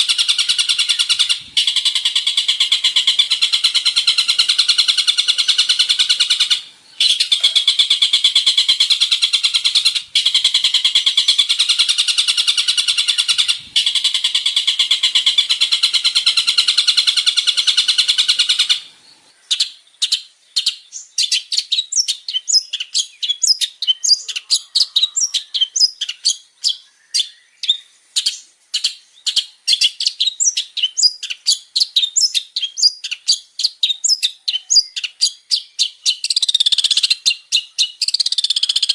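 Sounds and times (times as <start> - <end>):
bird singing buzzy trills and chirps: 0.0 - 38.9.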